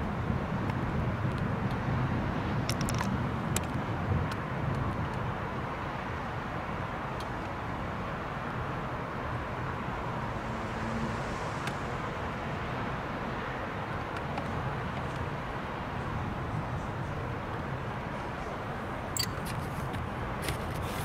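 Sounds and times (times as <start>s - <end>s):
distant city traffic hum: 0.0s - 21.0s.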